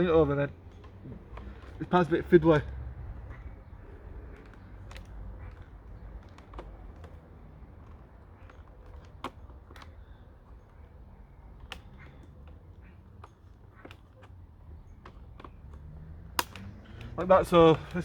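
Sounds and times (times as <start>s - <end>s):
light plastic clicks and taps: 0.0s - 18.0s.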